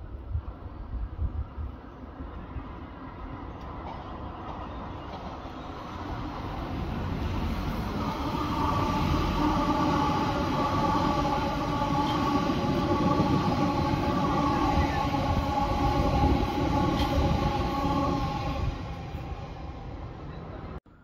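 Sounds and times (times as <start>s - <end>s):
train wheels rumbling on rail: 0.1s - 20.8s
electric train whine: 1.6s - 21.0s.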